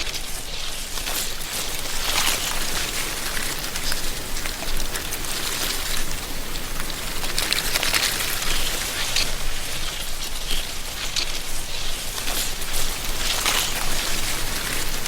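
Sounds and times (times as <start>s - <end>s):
wind rustling dry leaves: 0.0s - 15.0s.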